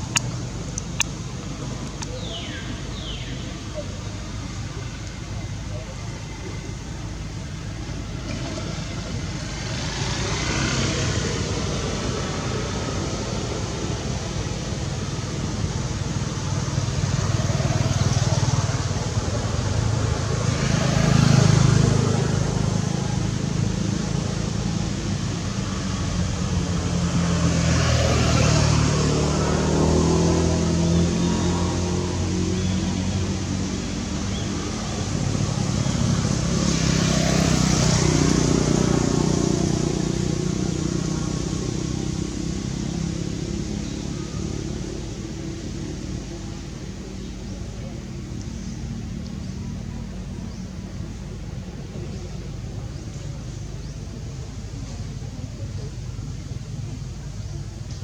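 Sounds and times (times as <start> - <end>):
motor vehicles passing: 0.0 - 58.0.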